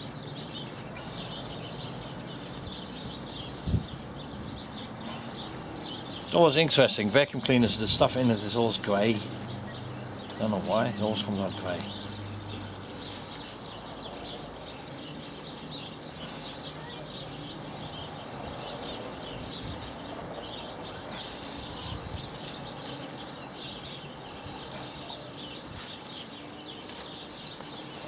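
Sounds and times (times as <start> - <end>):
birds chirping: 0.0 - 28.0
low rustling noise: 0.0 - 28.0.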